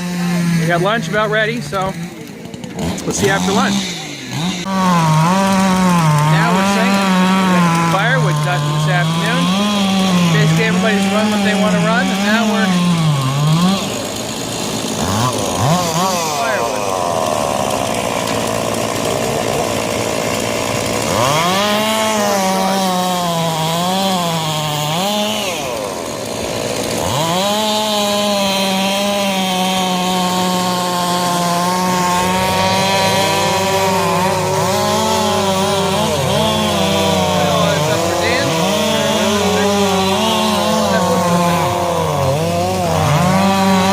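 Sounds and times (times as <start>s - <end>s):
chainsaw revving while cutting wood: 0.0s - 43.9s
other chainsaws running: 0.0s - 43.9s.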